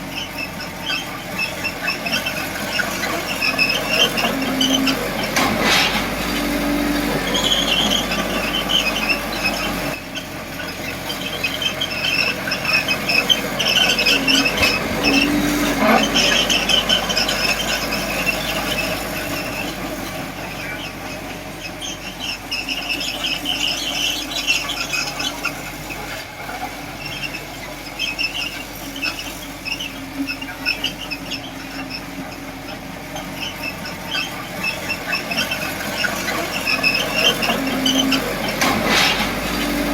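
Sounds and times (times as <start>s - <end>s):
bulldozer engine drone: 0.0s - 39.9s
steel tracks squealing: 0.0s - 39.9s.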